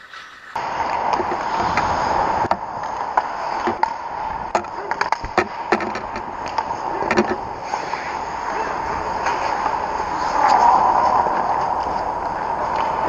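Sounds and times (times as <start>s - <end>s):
hockey sticks and puck clacking: 0.0s - 13.0s
rink hum: 0.0s - 13.0s
skates scraping ice: 0.0s - 13.0s.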